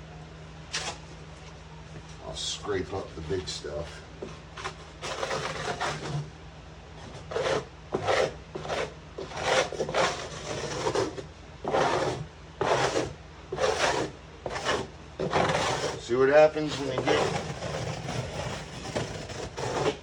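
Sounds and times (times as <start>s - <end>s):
scraping across wood: 3.2s - 6.3s, 7.0s - 20.0s.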